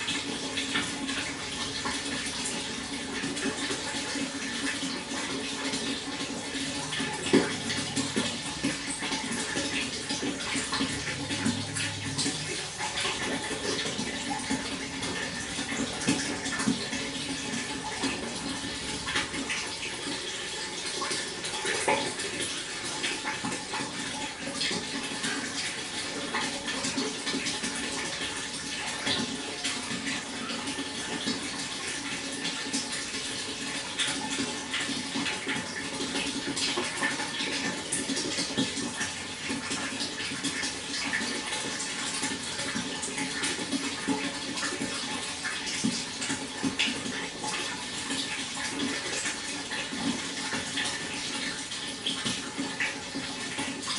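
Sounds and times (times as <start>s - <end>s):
water rushing and splashing: 0.0s - 53.9s.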